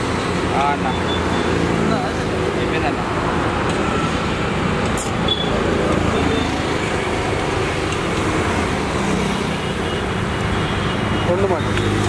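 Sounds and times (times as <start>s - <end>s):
traffic running by: 0.0s - 12.0s.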